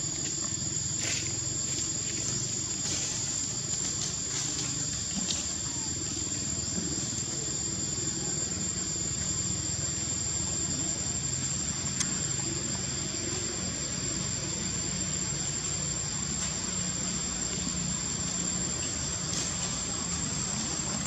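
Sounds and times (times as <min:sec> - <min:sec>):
high-pitched whine: 0:00.0 - 0:21.0.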